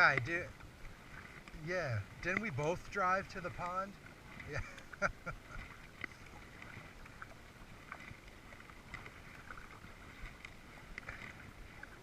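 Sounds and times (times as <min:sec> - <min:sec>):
paddle dips and splashes: 0:00.0 - 0:12.0
soft wash of water: 0:00.0 - 0:12.0.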